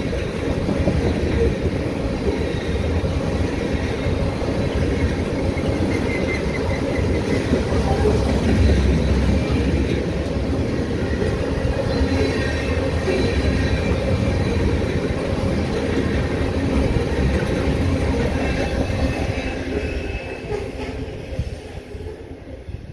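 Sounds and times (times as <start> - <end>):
freight train wheels rumbling: 0.0 - 22.9
faint high wheel squeal: 0.2 - 10.1, 11.0 - 22.7.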